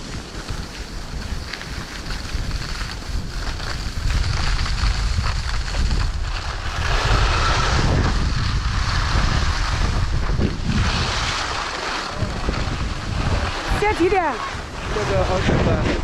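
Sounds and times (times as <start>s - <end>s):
skis scraping icy snow: 0.0s - 16.0s
wind buffeting microphone: 0.0s - 16.0s.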